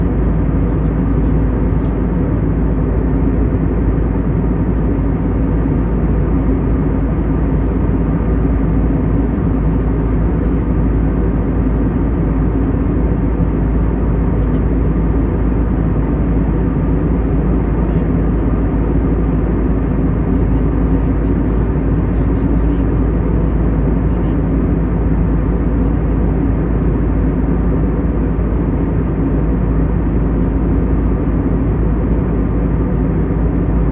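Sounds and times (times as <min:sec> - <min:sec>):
faint steady hums: 0:00.0 - 0:33.9
jet airliner cabin drone: 0:00.0 - 0:33.9.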